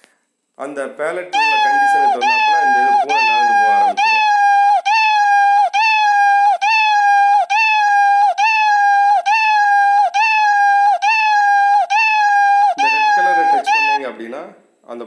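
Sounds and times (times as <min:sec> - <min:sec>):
cartoon cat meows: 0:01.4 - 0:14.0.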